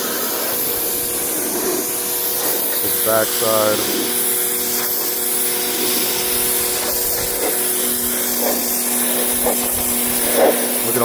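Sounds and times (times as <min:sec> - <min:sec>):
pressure washer motor hum: 0:00.0 - 0:11.0
water spray hissing: 0:00.0 - 0:11.0.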